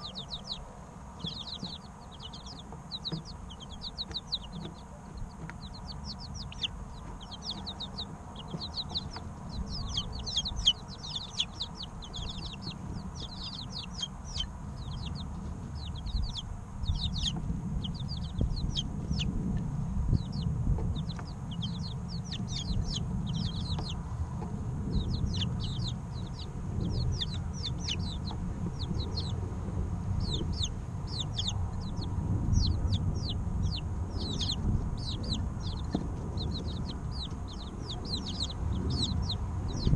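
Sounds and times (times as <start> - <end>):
chicks peeping: 0.0 - 39.9
low rumble: 0.0 - 39.9.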